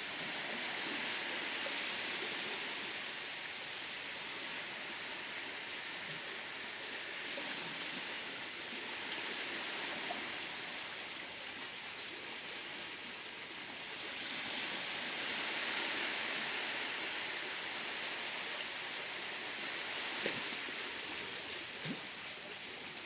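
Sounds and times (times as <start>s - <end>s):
sea waves washing: 0.0s - 23.0s.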